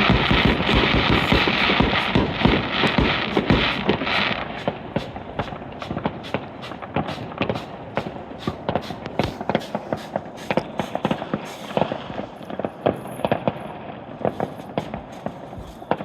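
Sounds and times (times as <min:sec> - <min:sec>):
fireworks banging and popping: 0:00.0 - 0:16.0.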